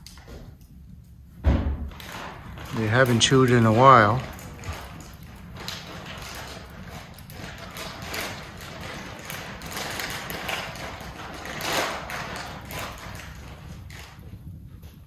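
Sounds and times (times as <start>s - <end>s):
package crinkling and rustling: 1.8s - 14.4s.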